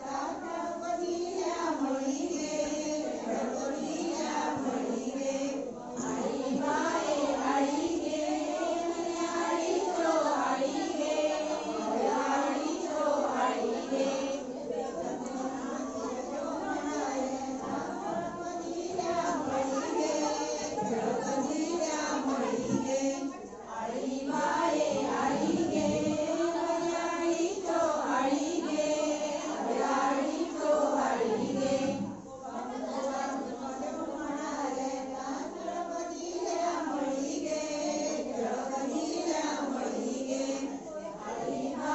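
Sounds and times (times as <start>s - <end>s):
women singing in chorus: 0.0s - 41.9s.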